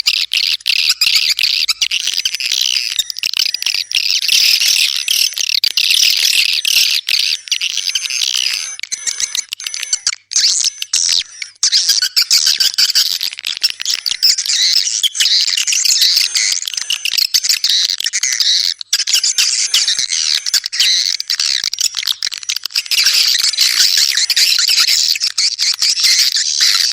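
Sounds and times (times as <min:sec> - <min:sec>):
swiftlets chirping and twittering: 0:00.0 - 0:26.9.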